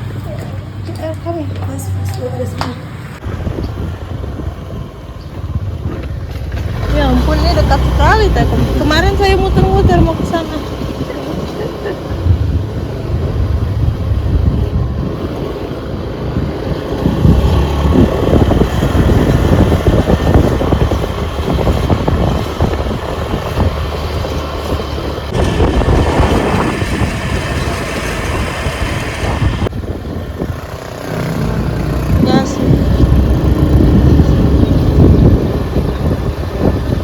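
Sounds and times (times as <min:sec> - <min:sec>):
vehicle low rumble: 0:00.0 - 0:37.0
wind buffeting microphone: 0:00.0 - 0:37.0.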